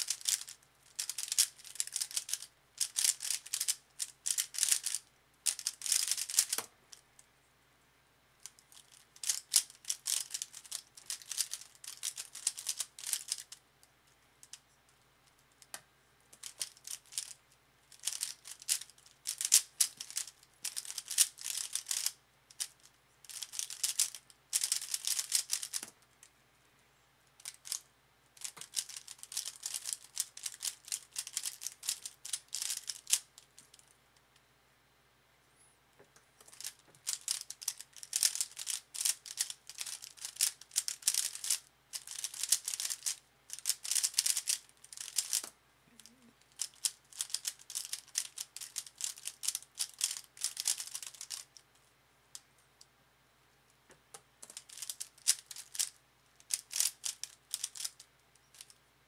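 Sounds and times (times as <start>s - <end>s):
puzzle cube clacking: 0.0s - 7.0s, 8.4s - 13.6s, 15.3s - 26.3s, 27.4s - 33.9s, 36.0s - 51.6s, 53.9s - 58.8s.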